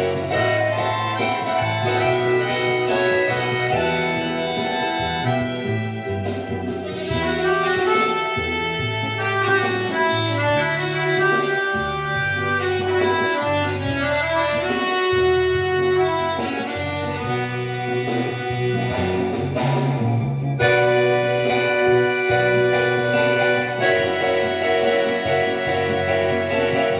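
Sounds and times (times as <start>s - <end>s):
accordion playing: 0.0s - 26.9s.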